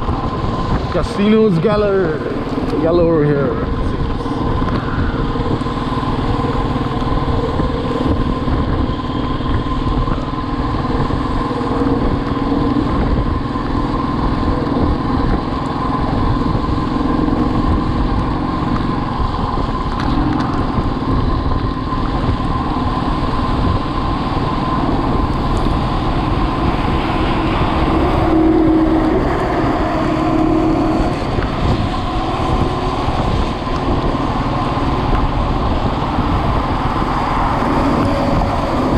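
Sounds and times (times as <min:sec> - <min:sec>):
motorcycle engine hum: 0:00.0 - 0:38.9
road and wind noise: 0:00.0 - 0:38.9.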